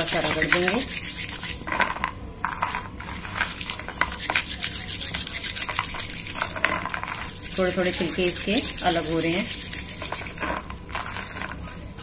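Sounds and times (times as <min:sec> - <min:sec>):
garlic skins rustling and scraping: 0:00.0 - 0:12.0.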